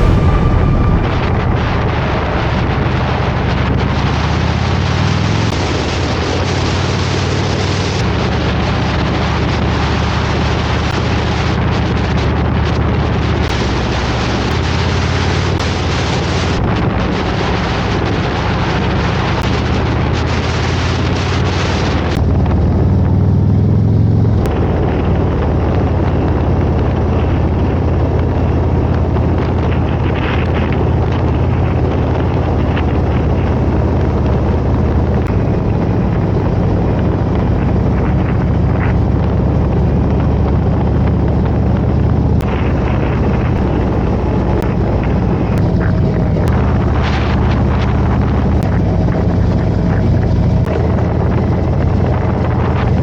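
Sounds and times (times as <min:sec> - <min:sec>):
wind rushing over microphone: 0:00.0 - 0:53.0
motorcycle engine running: 0:02.3 - 0:53.0.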